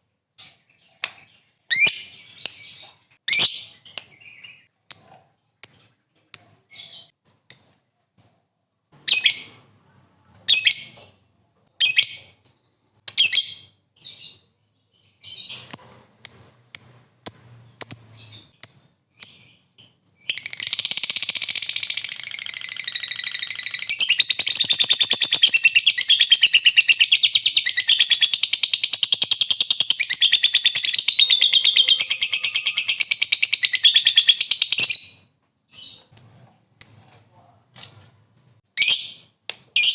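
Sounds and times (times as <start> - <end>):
bird chirping and trilling: 0.4 - 8.4, 11.8 - 37.2.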